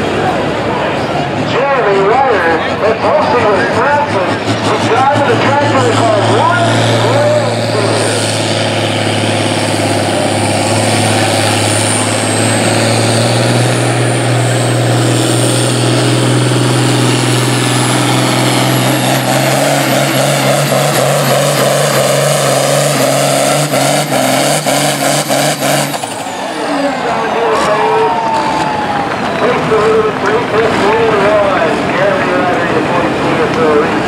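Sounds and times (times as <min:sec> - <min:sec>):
high engine whine: 0:00.0 - 0:34.0
tractor engine under load: 0:00.0 - 0:34.0.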